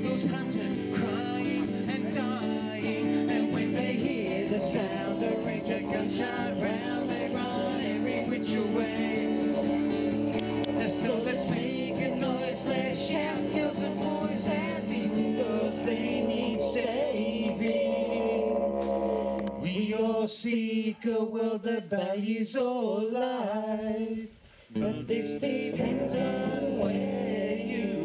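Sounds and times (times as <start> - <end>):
song with instruments and singing: 0.0 - 21.2, 23.2 - 28.0.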